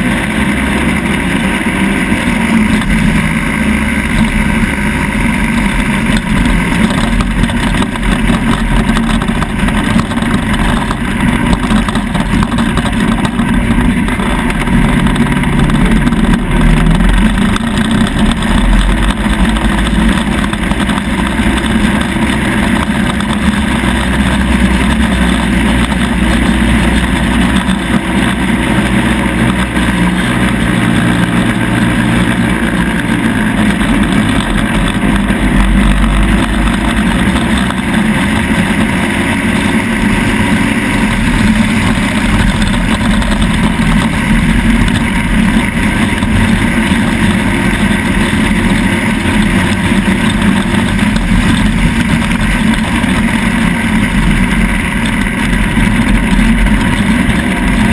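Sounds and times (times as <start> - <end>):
off-road vehicle engine revving: 0.0 - 57.9.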